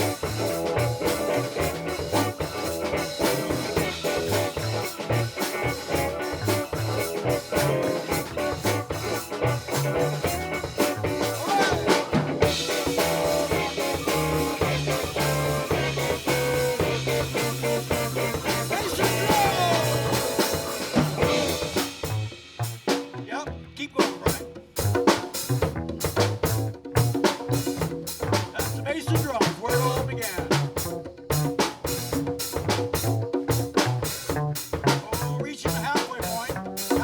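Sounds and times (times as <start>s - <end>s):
live band playing funk: 0.0s - 37.0s.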